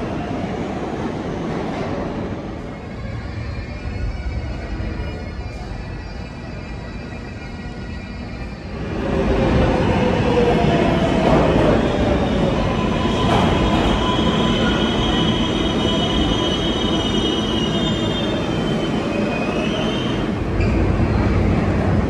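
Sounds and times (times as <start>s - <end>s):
subway train rumble: 0.0s - 22.0s
wheels squealing on rails: 2.5s - 22.0s.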